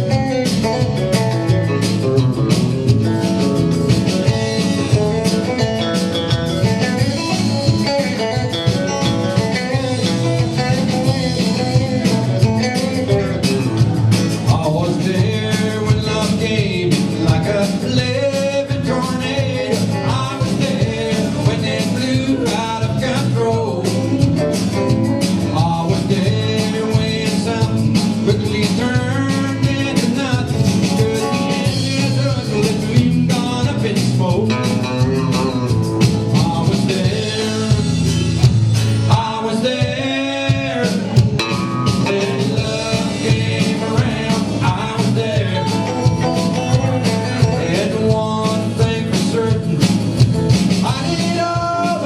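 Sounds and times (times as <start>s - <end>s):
band playing a song: 0.0s - 52.0s
guitar: 0.0s - 52.0s
steady beat: 0.0s - 52.0s
person singing: 4.0s - 38.1s, 39.1s - 52.0s.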